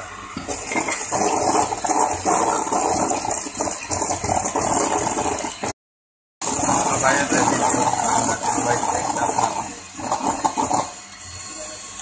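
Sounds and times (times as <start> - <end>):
electric hand mixer running: 0.0 - 5.7, 6.4 - 12.0.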